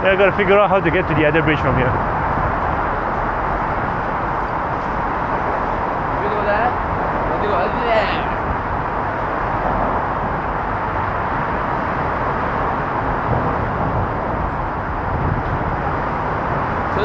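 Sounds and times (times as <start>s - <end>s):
traffic roar: 0.0s - 17.0s
wind noise on microphone: 0.0s - 17.0s.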